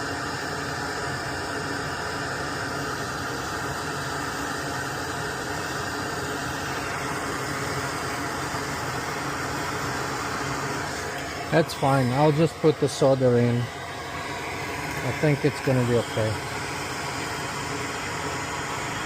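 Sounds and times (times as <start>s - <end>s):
electric fan motor whirring: 0.0s - 19.0s.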